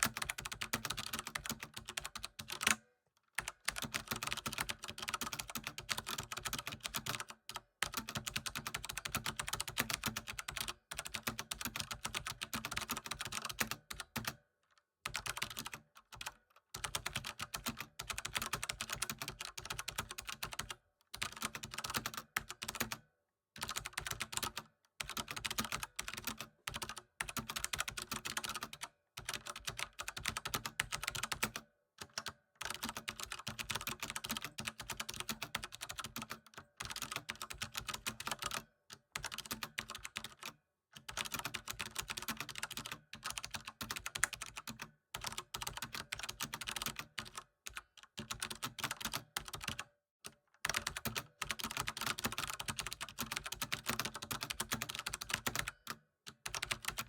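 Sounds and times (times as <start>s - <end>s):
typing on computer keyboard: 0.0s - 2.8s, 3.4s - 57.0s.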